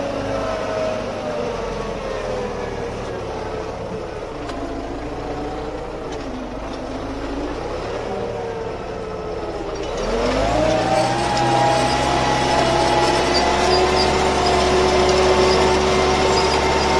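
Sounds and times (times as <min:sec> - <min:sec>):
tractor diesel engine revving: 0:00.0 - 0:16.9.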